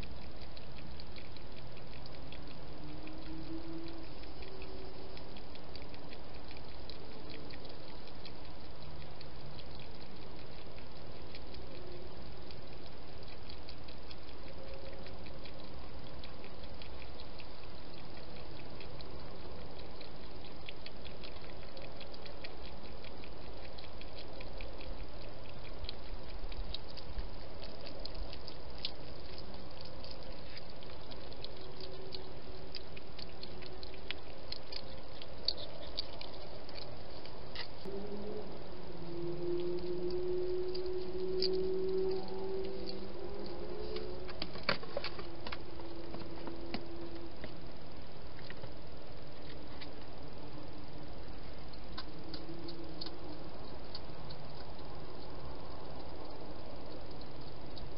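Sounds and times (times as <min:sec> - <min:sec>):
hedgehog chewing and smacking: 0:00.0 - 0:57.9
steady hiss: 0:00.0 - 0:57.9.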